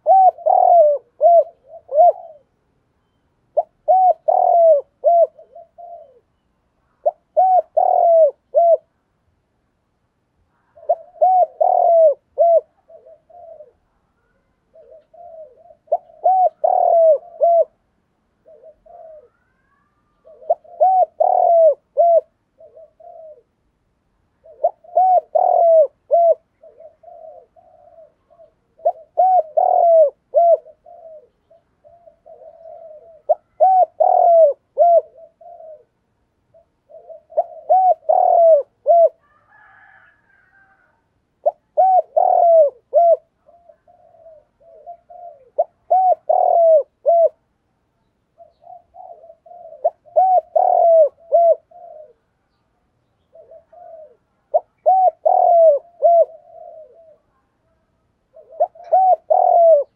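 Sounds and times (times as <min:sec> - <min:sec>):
dove cooing: 0:00.0 - 0:02.7, 0:03.5 - 0:09.0, 0:10.5 - 0:23.6, 0:24.4 - 0:47.5, 0:48.3 - 0:52.5, 0:53.1 - 0:59.9.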